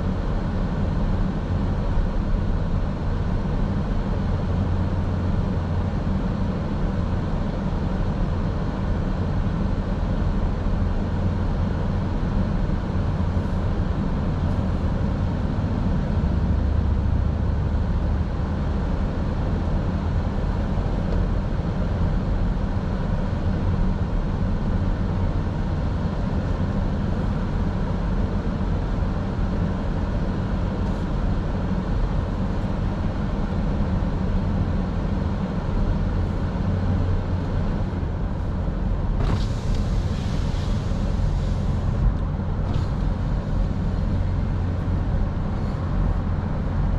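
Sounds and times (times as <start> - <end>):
car road and engine noise: 0.0 - 46.9.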